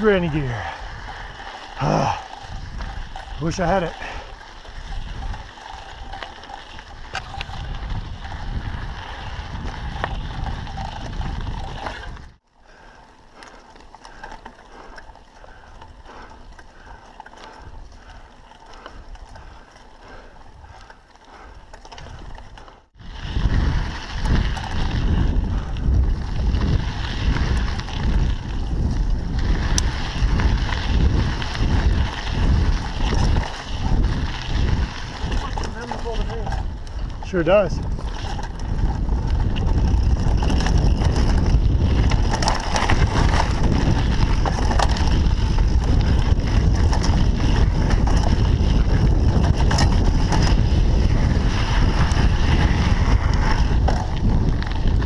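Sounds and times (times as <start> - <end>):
wind buffeting microphone: 0.0 - 12.4, 14.1 - 55.0
bike rattle: 0.0 - 55.0
bike tyres on dirt and rock: 0.0 - 55.0.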